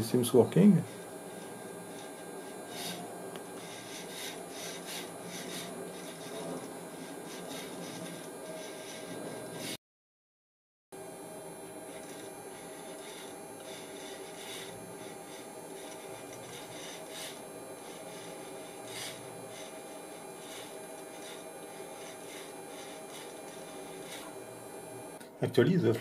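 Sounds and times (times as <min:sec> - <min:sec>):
electrical hum: 0:00.0 - 0:09.8, 0:11.0 - 0:26.0
pencil scraping a mechanism: 0:00.7 - 0:09.8, 0:11.8 - 0:24.5.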